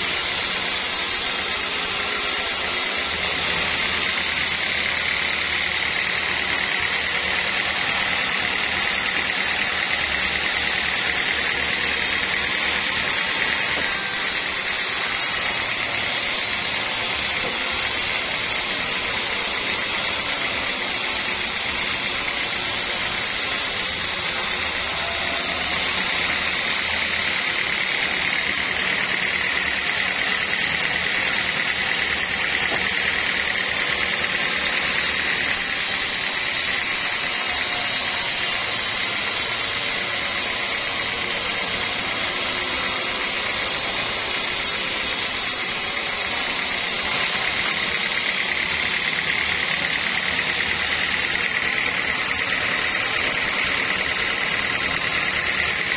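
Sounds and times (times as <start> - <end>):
band saw whining through wood: 0.0 - 55.9.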